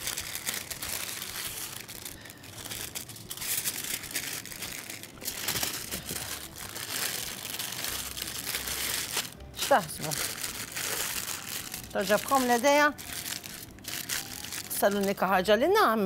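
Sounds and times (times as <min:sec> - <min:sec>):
paper and foil crinkling: 0:00.0 - 0:15.8.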